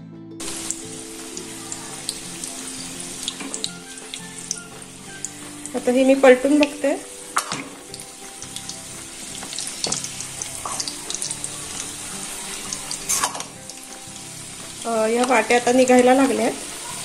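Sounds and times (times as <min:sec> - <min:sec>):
dough sizzling in hot oil: 0:00.4 - 0:17.0.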